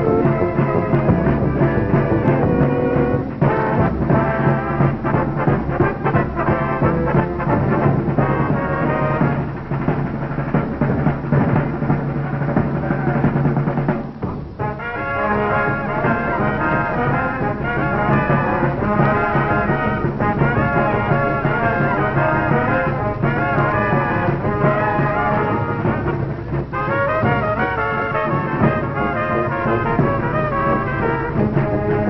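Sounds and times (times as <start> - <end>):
brass band music with drums: 0.0 - 32.0.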